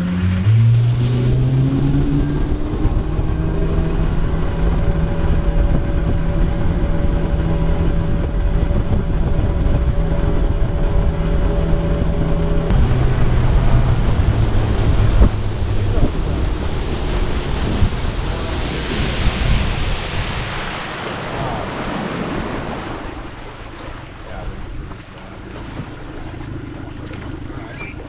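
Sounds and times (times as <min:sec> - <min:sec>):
boat engine running: 0:00.0 - 0:28.0
water and wind noise: 0:00.0 - 0:28.0.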